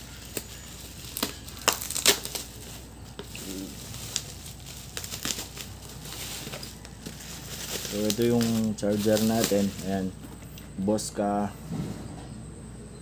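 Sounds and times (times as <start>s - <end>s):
bubble wrap and plastic crinkling: 0.0s - 10.6s.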